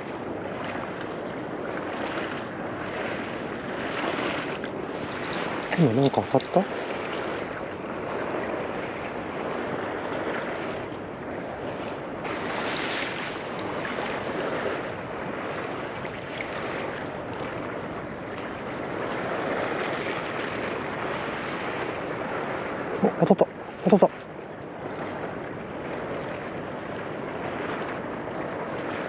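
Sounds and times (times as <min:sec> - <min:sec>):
sea waves washing: 0:00.0 - 0:29.0
wind on microphone: 0:00.0 - 0:29.0.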